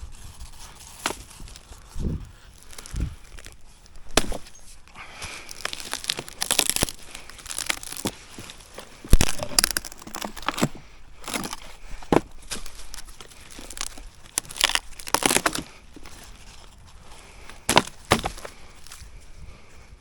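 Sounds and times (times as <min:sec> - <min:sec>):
crinkling and rustling: 0:00.0 - 0:19.8.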